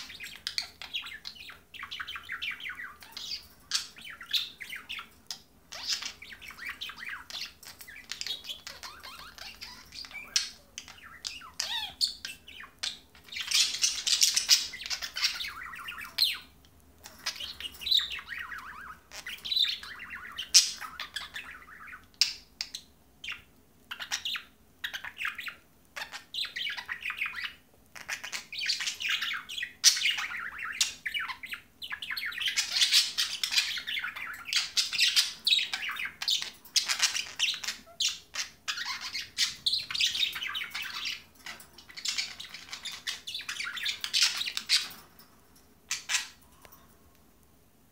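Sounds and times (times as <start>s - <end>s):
budgerigars chattering: 0.0s - 45.1s, 45.9s - 46.4s.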